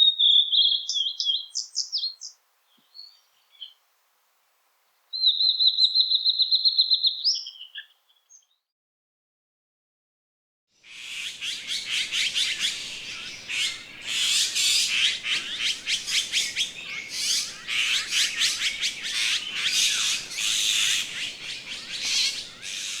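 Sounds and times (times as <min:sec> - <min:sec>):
small birds chirping: 0:00.0 - 0:03.8, 0:05.1 - 0:08.6, 0:10.9 - 0:23.0.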